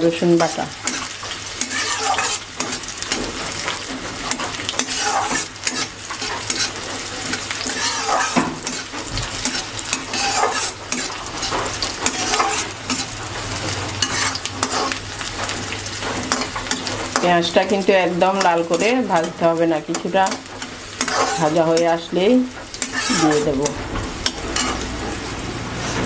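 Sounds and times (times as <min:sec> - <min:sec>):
onions sizzling in oil: 0:00.0 - 0:26.0
metal spatula scraping pan: 0:00.3 - 0:25.2.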